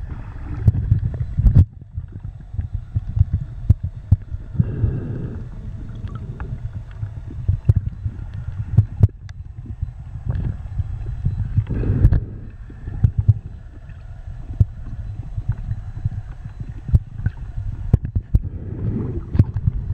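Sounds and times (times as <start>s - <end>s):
underwater rumble of moving water: 0.0s - 19.9s
underwater clicks and knocks: 0.5s - 4.4s, 5.9s - 12.3s, 12.9s - 13.6s, 14.5s - 19.9s.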